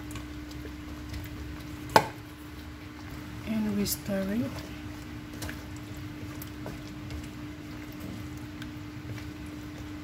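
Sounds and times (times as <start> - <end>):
thick gravy being stirred: 0.0 - 10.0.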